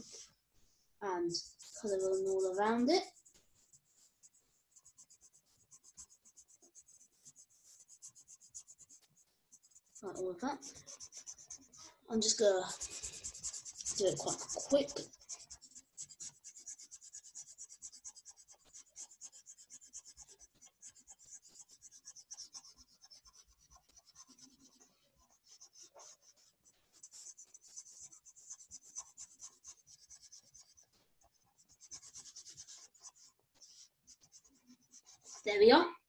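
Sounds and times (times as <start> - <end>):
colouring tip scribbling on paper: 1.2 - 35.8.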